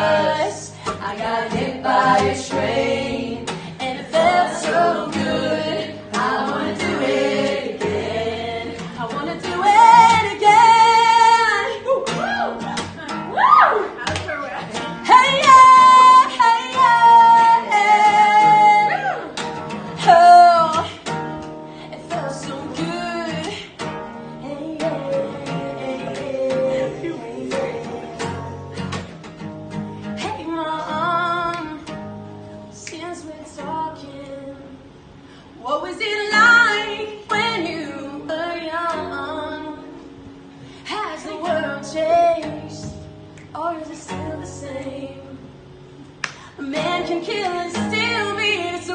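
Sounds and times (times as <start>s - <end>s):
woman singing: 0.0s - 13.2s, 14.8s - 19.3s, 19.9s - 21.2s, 21.9s - 28.4s, 30.1s - 32.0s, 32.7s - 34.9s, 35.6s - 40.1s, 40.8s - 45.5s, 46.4s - 48.9s
acoustic guitar: 0.0s - 48.9s.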